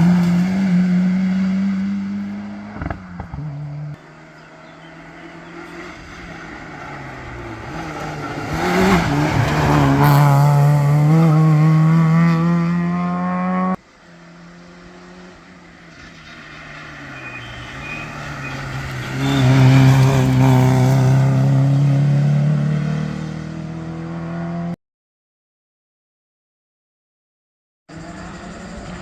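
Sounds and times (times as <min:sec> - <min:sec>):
rally car engines at full throttle: 0:00.0 - 0:24.8, 0:27.9 - 0:29.0.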